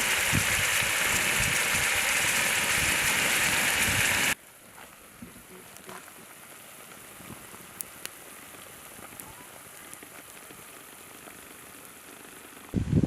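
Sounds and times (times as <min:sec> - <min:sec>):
food sizzling in a pan: 0:00.0 - 0:12.8
oil popping: 0:00.0 - 0:12.8.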